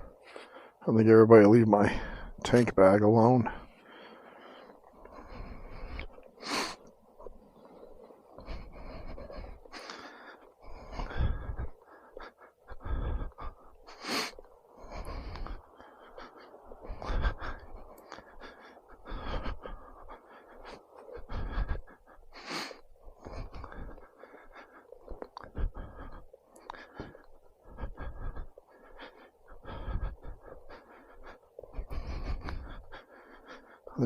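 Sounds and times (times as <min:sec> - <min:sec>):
person breathing: 0:00.0 - 0:00.9, 0:01.8 - 0:02.4, 0:03.4 - 0:34.0.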